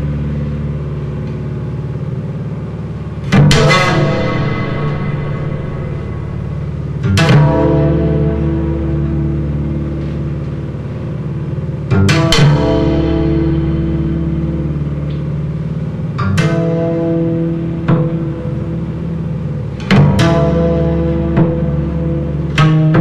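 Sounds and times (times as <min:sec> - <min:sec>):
bass guitar chords: 0:00.0 - 0:23.0.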